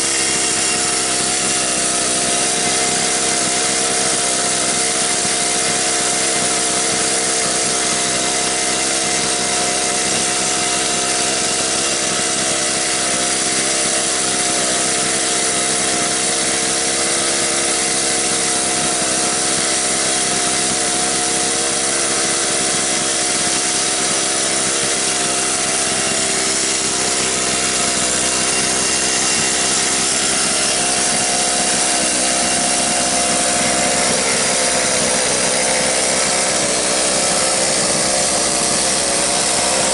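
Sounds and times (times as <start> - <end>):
small rc car engine running: 0.0 - 39.9.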